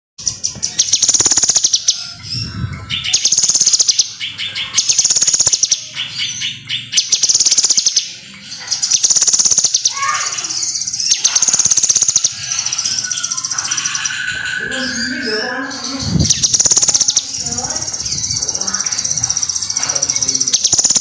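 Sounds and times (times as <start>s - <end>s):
songbird trilling and chattering: 0.2s - 21.0s.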